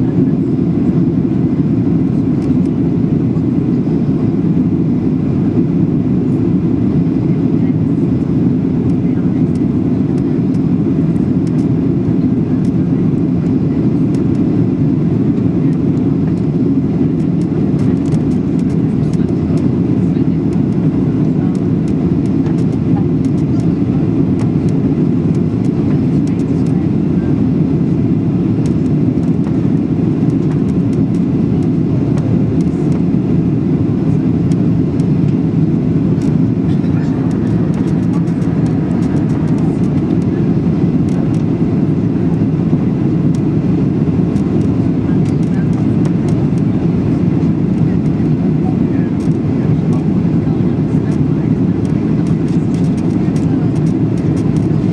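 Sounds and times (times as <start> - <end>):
airplane cabin engine rumble: 0.0 - 54.9.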